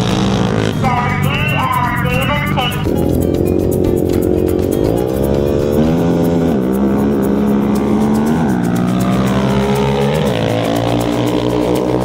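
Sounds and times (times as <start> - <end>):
quad and dirt bike engines revving: 0.0 - 12.0.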